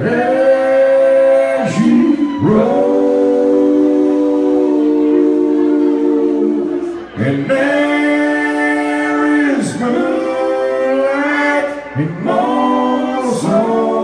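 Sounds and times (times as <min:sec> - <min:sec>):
live country band music: 0:00.0 - 0:14.0
person singing: 0:00.0 - 0:14.0.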